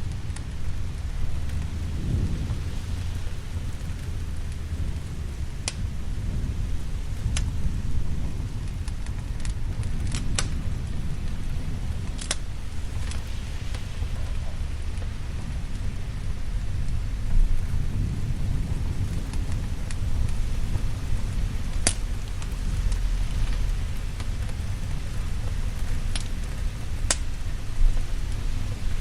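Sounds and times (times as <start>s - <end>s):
low rumble of thunder: 0.0s - 29.0s
steady rain: 0.0s - 29.0s
wood fire crackling pops: 0.0s - 29.0s.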